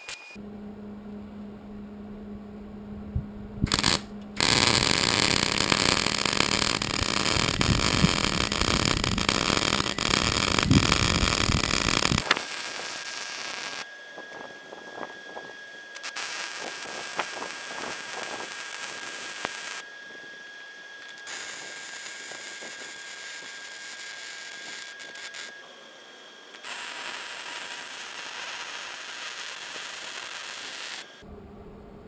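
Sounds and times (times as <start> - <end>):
welding arc crackling sizzle: 3.6 - 19.9, 21.0 - 25.6, 26.4 - 31.2.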